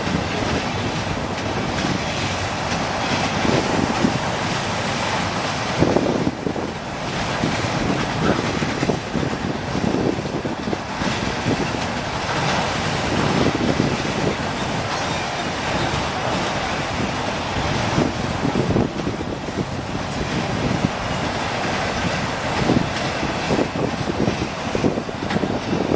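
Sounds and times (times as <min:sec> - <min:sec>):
train wheels rumbling on rail: 0:00.0 - 0:25.9
wind buffeting microphone: 0:00.0 - 0:25.9.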